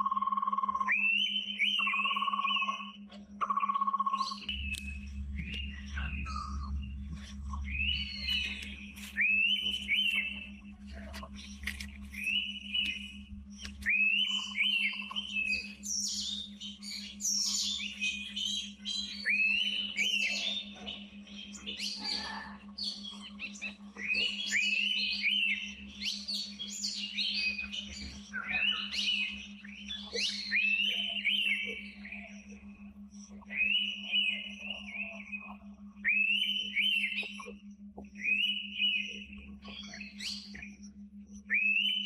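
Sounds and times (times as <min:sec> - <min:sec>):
forest birds singing and chirping: 0:00.0 - 0:42.0
faint steady low hum: 0:02.0 - 0:42.0.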